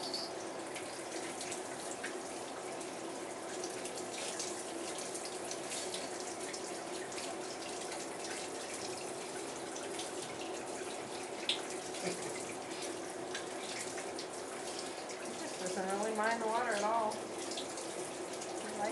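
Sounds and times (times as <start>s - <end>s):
shower water running into bathtub: 0.0s - 18.9s
water splashes and drips: 0.0s - 18.9s.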